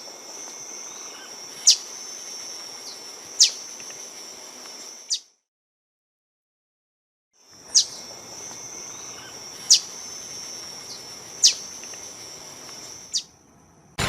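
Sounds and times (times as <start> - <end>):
insect drone: 0.0 - 5.4, 7.4 - 14.0.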